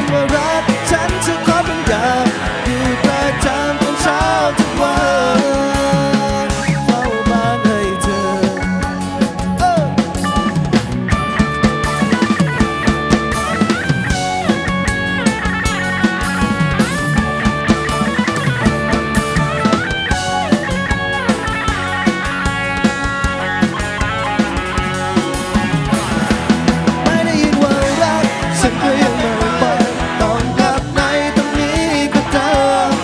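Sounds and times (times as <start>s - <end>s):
lead guitar sliding notes: 0.0s - 32.9s
bass guitar: 0.0s - 33.0s
drum kit beat: 0.0s - 33.0s.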